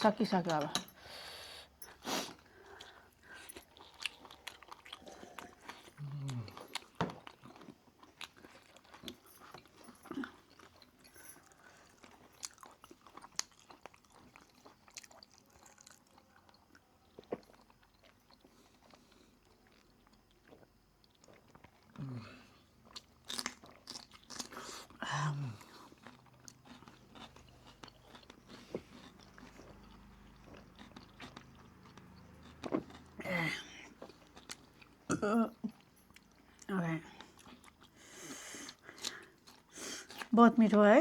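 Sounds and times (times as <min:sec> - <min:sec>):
chewing with crunchy bites: 0:01.8 - 0:40.4.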